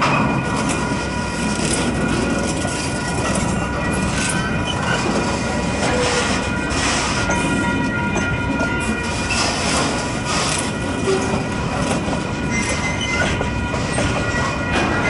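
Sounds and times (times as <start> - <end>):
train wheels rumbling and clicking: 0.0 - 15.0.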